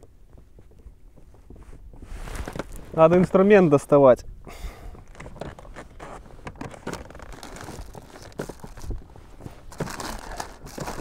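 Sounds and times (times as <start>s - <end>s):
clothing and gear rustling: 0.2s - 3.8s, 5.0s - 11.0s.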